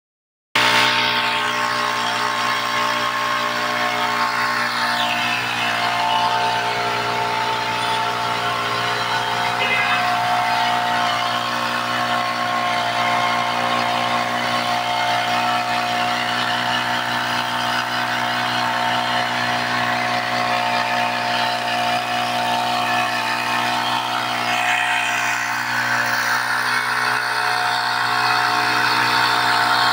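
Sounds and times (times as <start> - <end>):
small petrol engine running: 0.6 - 29.9.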